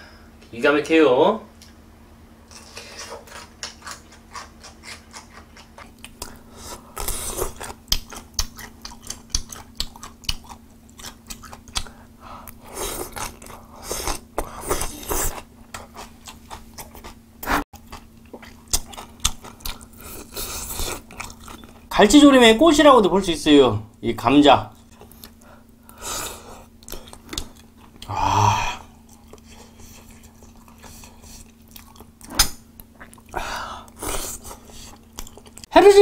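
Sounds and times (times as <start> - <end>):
person chewing food: 2.5 - 21.9, 24.8 - 35.7.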